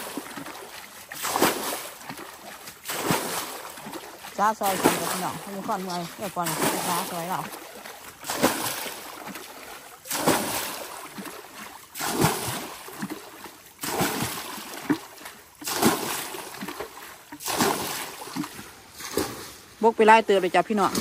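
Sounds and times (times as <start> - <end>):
bucket water splashing: 0.0 - 21.0.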